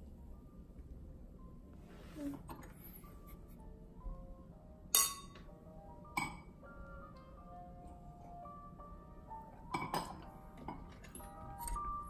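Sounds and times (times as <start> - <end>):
soft melodic background music: 0.0 - 12.0.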